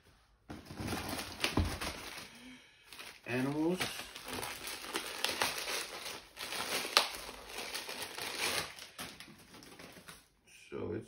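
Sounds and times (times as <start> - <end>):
plastic wrapping crinkling: 0.5 - 10.4.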